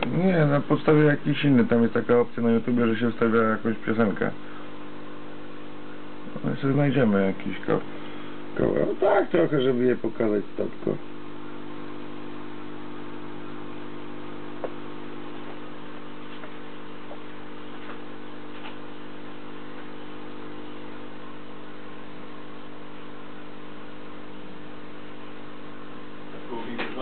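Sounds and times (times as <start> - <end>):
aquarium air pump humming: 0.0 - 27.0.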